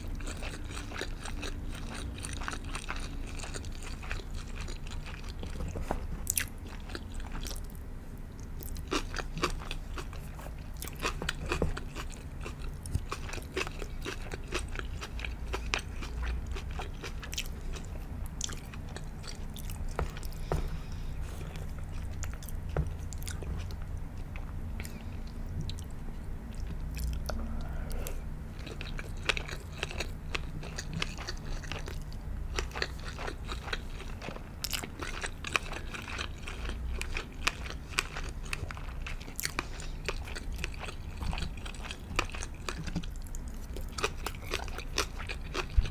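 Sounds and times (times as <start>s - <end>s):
chewing and mouth clicks: 0.0s - 45.9s
steady low hum: 0.0s - 45.9s.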